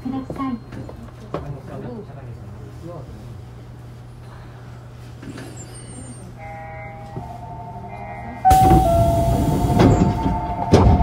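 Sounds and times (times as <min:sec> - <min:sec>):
train low hum: 0:00.0 - 0:11.0.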